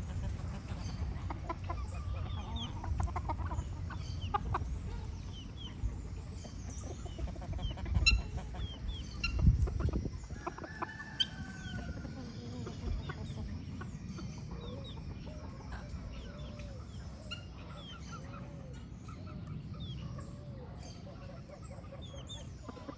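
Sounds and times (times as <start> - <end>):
chickens clucking: 0.0 - 22.9.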